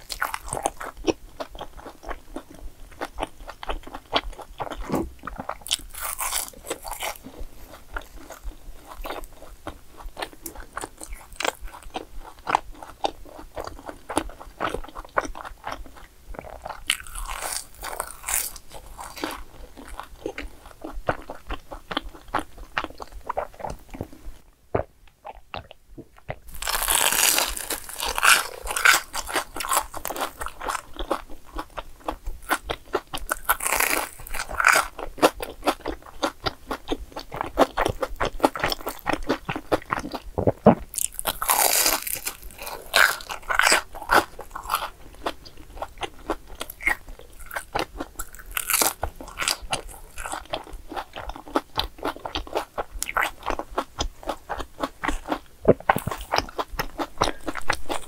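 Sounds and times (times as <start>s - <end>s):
crunching and chewing fried food: 0.0s - 58.0s.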